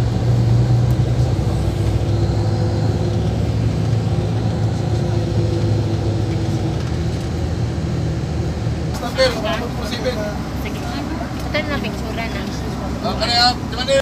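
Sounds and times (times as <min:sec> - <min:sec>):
bus diesel engine humming: 0:00.0 - 0:14.0.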